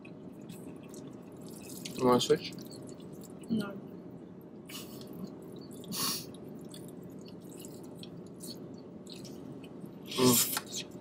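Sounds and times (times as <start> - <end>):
people chewing and slurping noodles: 0.0 - 3.6, 4.7 - 11.0
steady low hum: 0.0 - 11.0.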